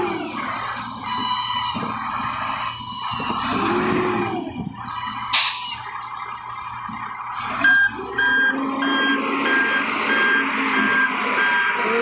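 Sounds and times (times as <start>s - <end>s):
diesel engine running: 0.0s - 12.0s
reversing alarm beeping: 0.0s - 12.0s.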